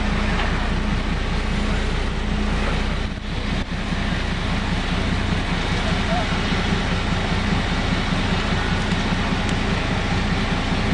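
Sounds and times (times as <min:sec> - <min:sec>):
road noise: 0:00.0 - 0:10.9
vehicle engine hum: 0:00.0 - 0:10.9.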